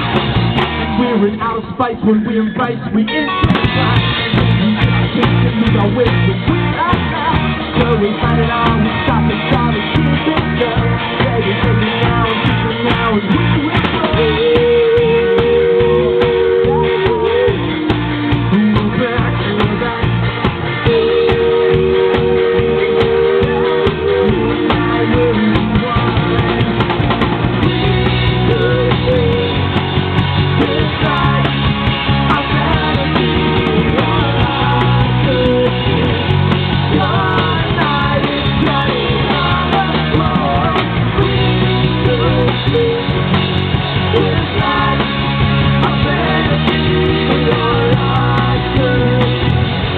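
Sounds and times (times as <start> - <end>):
live rock band playing: 0.0 - 49.9
lead guitar melody: 2.9 - 49.9.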